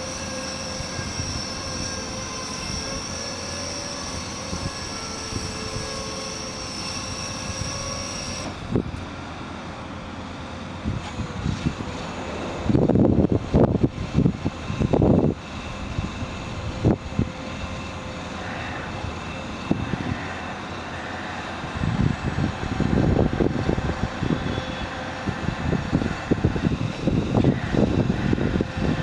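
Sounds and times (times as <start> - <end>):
wind buffeting microphone: 0.0 - 9.2, 10.8 - 18.1, 18.8 - 20.6, 21.4 - 29.0.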